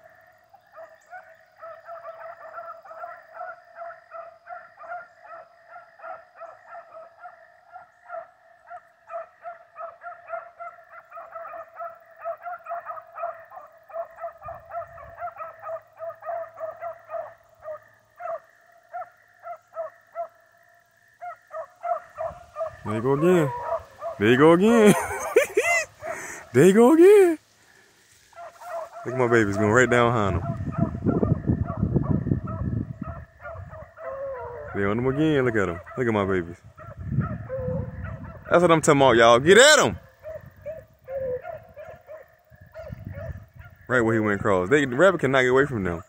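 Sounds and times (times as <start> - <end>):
hounds baying in the distance: 0.0 - 46.0.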